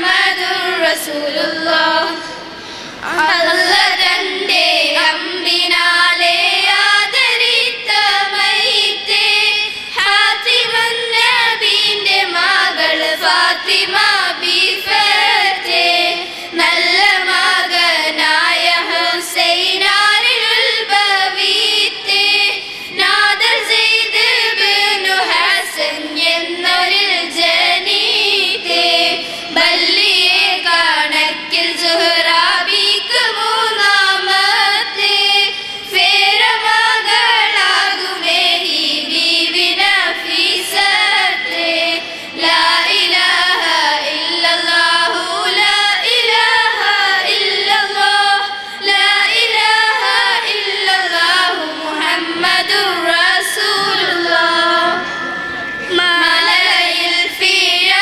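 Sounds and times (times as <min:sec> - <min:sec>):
girls singing into microphones: 0:00.0 - 0:58.0.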